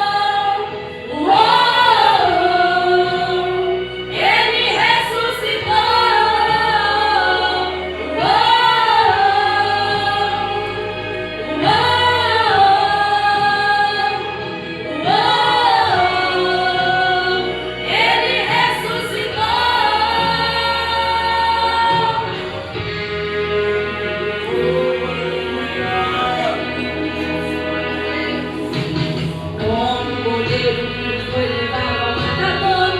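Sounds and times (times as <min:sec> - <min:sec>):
gospel choir singing: 0:00.0 - 0:32.9
instrumental backing: 0:00.0 - 0:32.9.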